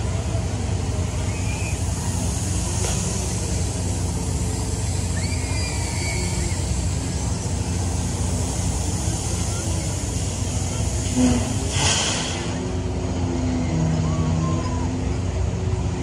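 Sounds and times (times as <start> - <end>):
ride machinery hum and rumble: 0.0 - 16.0.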